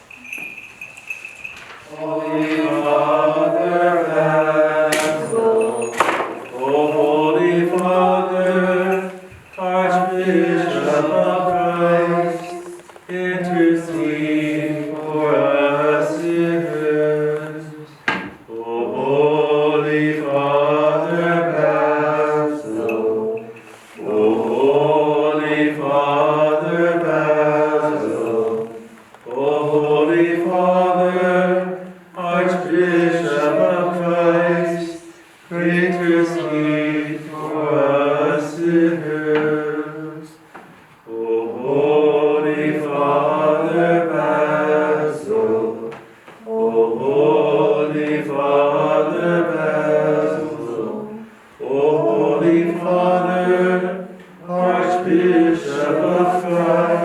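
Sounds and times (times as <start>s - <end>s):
liturgical chant on held notes: 1.4s - 57.0s.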